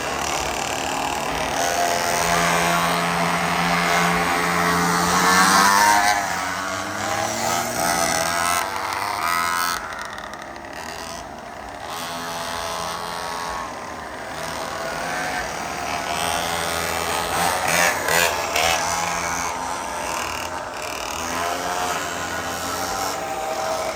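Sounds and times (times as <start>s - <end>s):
mini bike engines revving: 0.0s - 23.9s.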